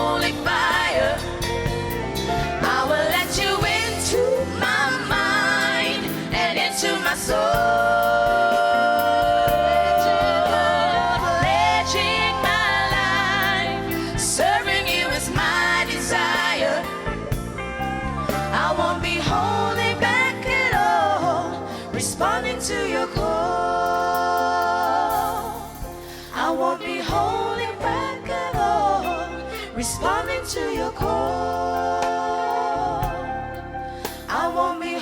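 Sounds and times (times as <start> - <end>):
instrumental backing: 0.0 - 35.0.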